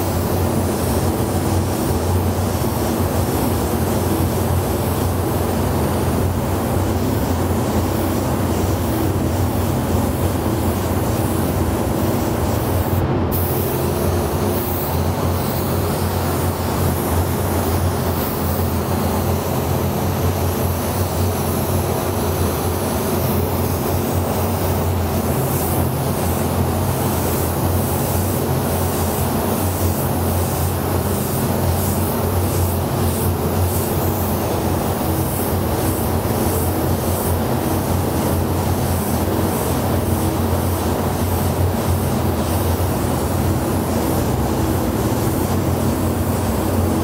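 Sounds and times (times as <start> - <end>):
spray gun hissing: 0.0 - 47.0
ventilation hum and air rush: 0.0 - 47.0.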